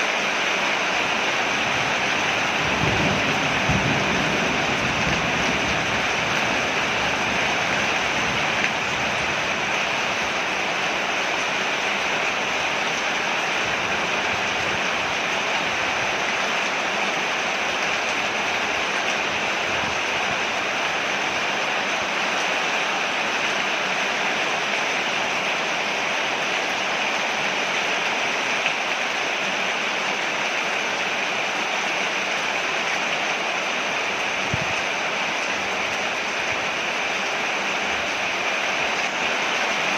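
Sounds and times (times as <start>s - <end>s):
rain falling on a porch: 0.0s - 39.9s.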